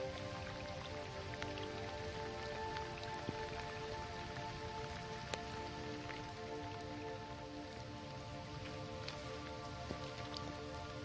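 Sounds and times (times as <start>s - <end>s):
heavy rain on road: 0.0s - 11.0s.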